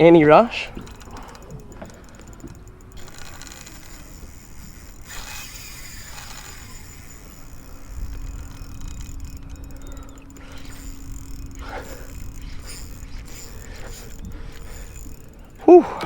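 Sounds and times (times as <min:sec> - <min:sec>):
fishing reel under load: 0:00.0 - 0:16.0
steady low hum: 0:00.0 - 0:16.0.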